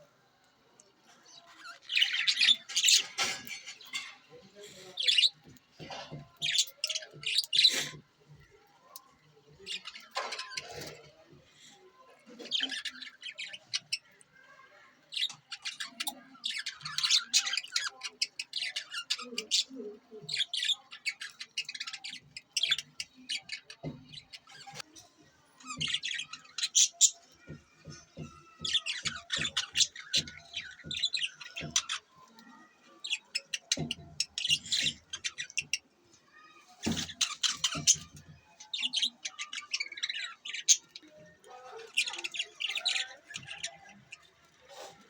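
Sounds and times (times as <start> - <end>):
budgerigars chirping and warbling: 0.8 - 45.0.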